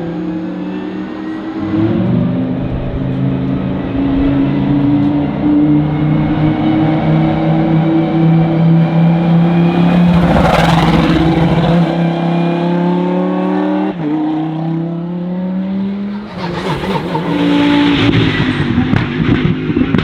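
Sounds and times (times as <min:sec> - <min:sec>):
race car engine accelerating: 0:00.1 - 0:20.0.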